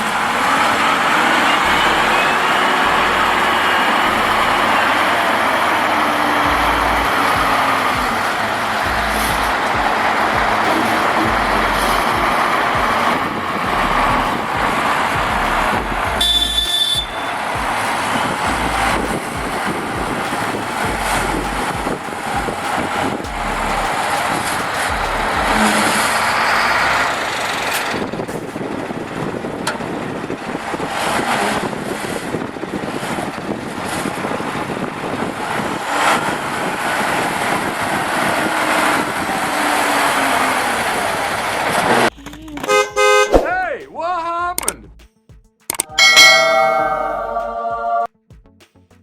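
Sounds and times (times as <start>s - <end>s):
vehicle engine noise: 0.0s - 43.8s.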